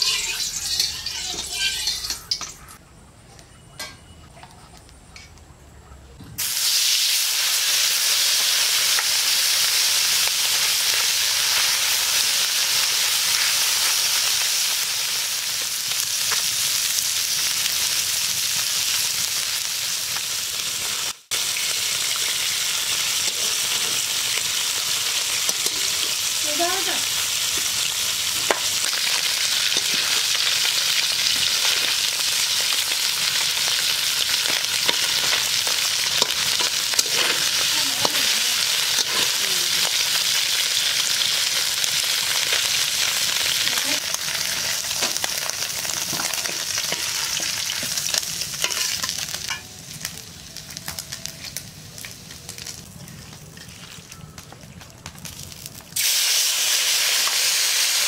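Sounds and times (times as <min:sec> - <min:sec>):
fish sizzling in oil: 0:00.0 - 0:02.6, 0:06.4 - 0:54.4, 0:55.0 - 0:58.0.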